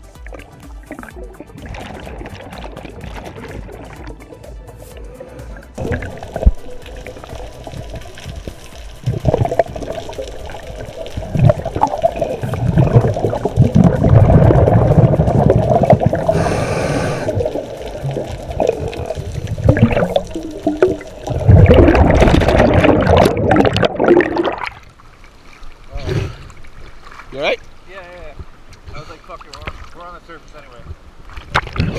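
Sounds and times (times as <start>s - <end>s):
churning water: 0.0s - 28.3s
underwater rushing and bubbling: 0.0s - 30.0s, 31.0s - 31.9s.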